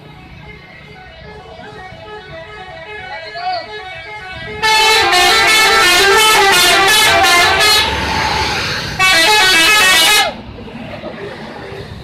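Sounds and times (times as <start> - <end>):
multi-tone musical bus horn: 0.2 - 10.8.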